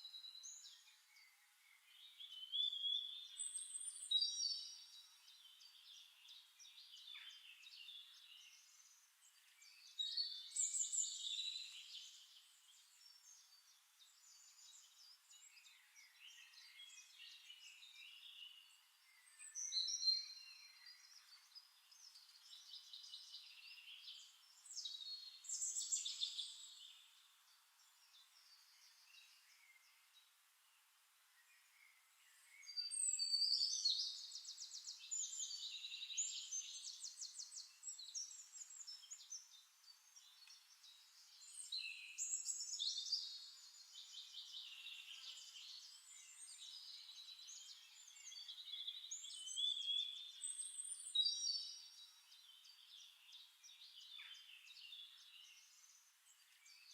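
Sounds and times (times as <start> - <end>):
small birds chirping and trilling: 0.0 - 56.9.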